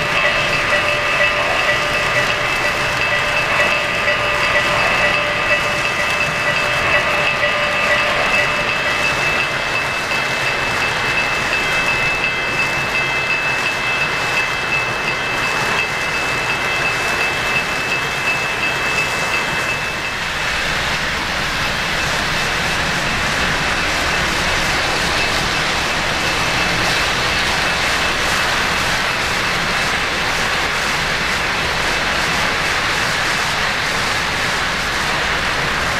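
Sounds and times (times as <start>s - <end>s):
thin high whine: 0.0s - 35.5s.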